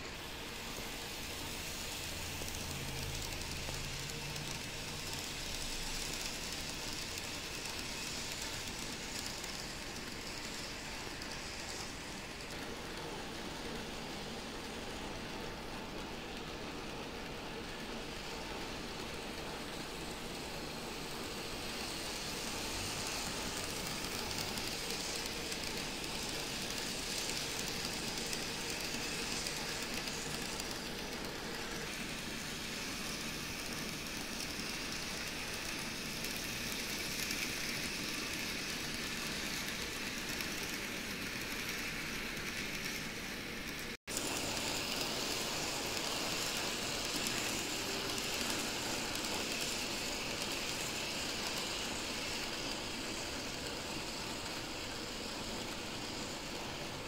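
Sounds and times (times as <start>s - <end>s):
model train whirring on track: 0.0s - 57.0s.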